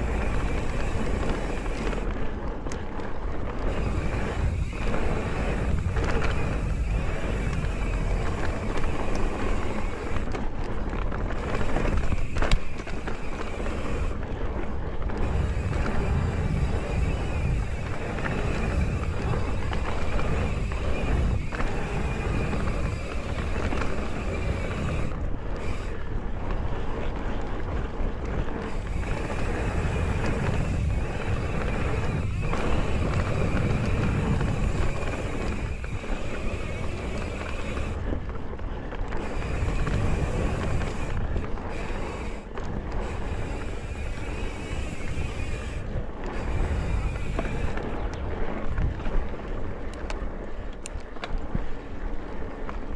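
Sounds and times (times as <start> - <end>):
tyres rolling on packed dirt: 0.0 - 52.9
wind rushing over microphone: 0.0 - 52.9.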